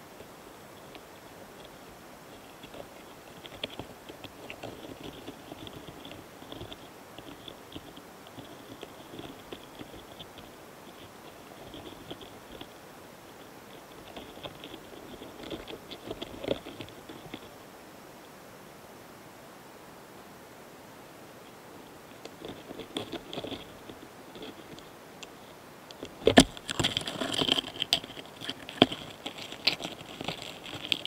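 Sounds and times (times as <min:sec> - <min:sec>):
beetles scratchy crackles: 0:00.0 - 0:17.7, 0:21.4 - 0:31.0.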